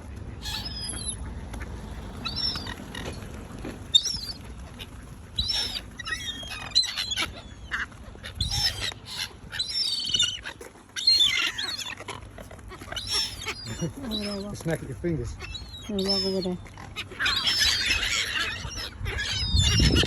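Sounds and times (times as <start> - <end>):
waterbirds calling: 0.0 - 20.0.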